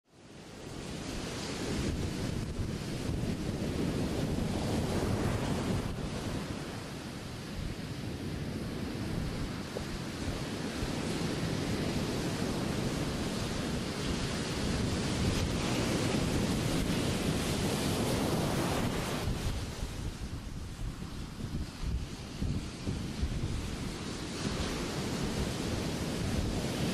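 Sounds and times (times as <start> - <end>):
wind on microphone: 0.1 - 26.9
ocean surf breaking: 0.2 - 26.9.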